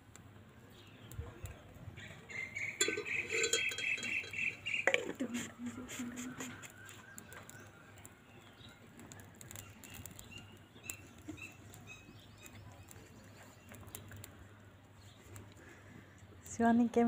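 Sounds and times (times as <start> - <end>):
birds chirping: 0.6 - 16.3.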